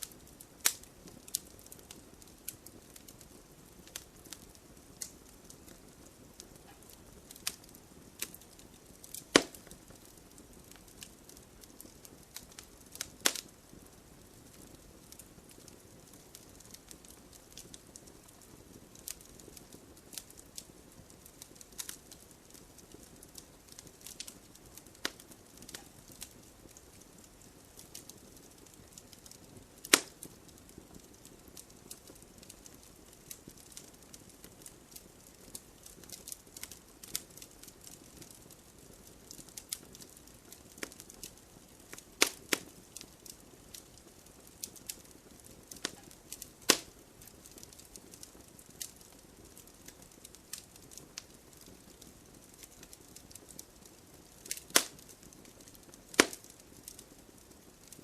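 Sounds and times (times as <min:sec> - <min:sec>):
sharp fire snaps: 0:00.0 - 0:58.0
wood fire crackling: 0:00.0 - 0:58.0.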